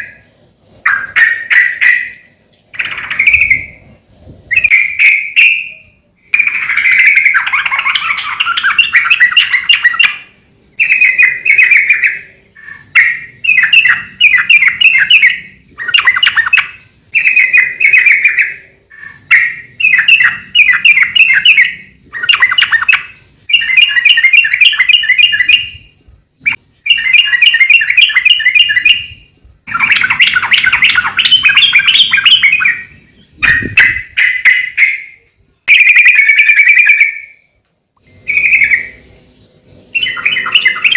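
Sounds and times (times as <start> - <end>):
bird singing warbling phrases: 0.0 - 40.9.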